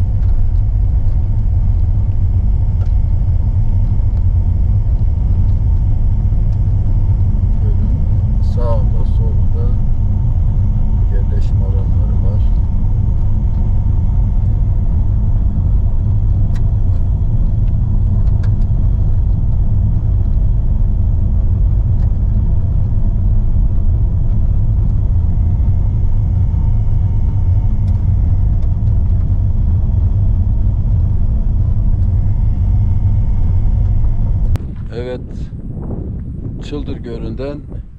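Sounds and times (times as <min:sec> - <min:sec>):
car engine and tyre noise: 0:00.0 - 0:37.9.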